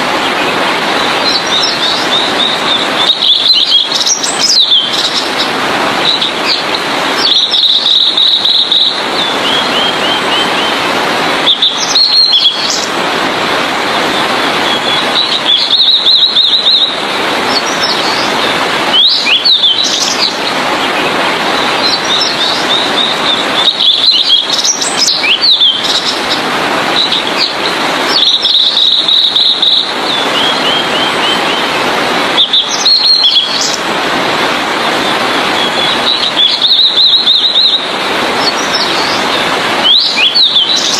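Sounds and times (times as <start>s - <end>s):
steady rushing noise: 0.0s - 40.9s
bird singing: 1.0s - 10.8s, 11.4s - 12.9s, 14.6s - 26.4s, 27.0s - 31.8s, 32.4s - 33.8s, 35.0s - 40.9s.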